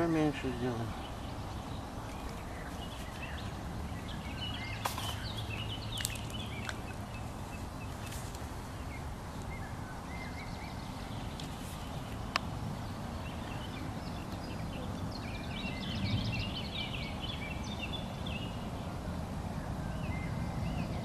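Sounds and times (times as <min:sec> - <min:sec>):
low outdoor background hiss: 0:00.0 - 0:21.0
small birds chirping: 0:00.0 - 0:21.0.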